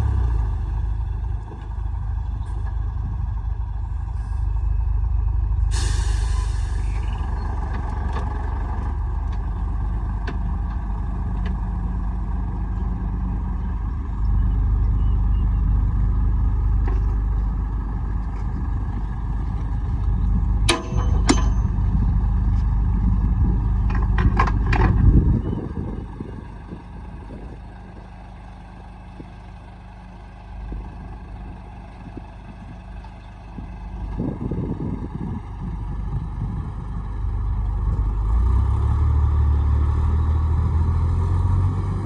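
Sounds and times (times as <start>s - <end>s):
heavy diesel machinery rumbling: 0.0s - 42.0s.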